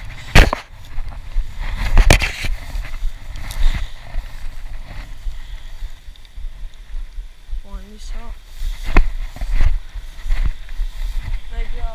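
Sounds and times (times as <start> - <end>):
wind rumble on microphone: 0.0 - 11.9.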